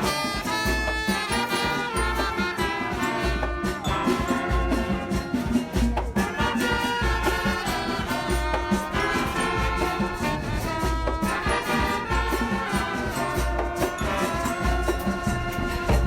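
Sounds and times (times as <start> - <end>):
pitched instrument tones: 0.0 - 16.0
shaker-like percussion: 0.0 - 16.0.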